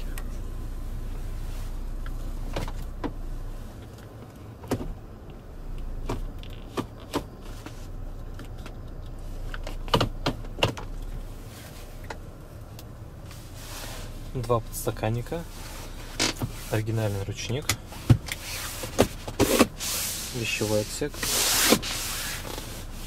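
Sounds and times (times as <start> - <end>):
car cabin hum: 0.0 - 23.0.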